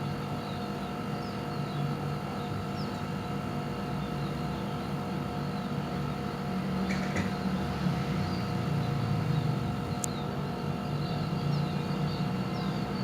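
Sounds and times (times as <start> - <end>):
low mechanical rumble: 0.0 - 13.0
small birds chirping: 0.0 - 13.0
steady hum tones: 0.0 - 13.0.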